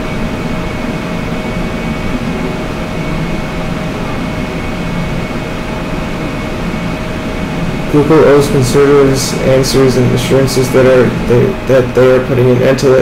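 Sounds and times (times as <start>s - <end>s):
faint constant tones: 0.0s - 13.0s
machine droning: 0.0s - 13.0s.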